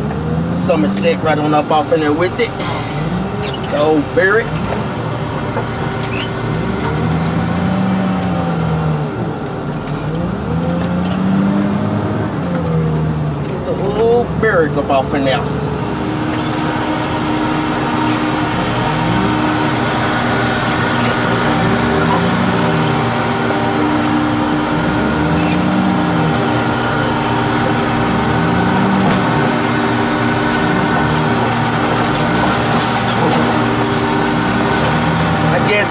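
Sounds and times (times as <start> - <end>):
heavy machine engine revving: 0.0 - 35.9.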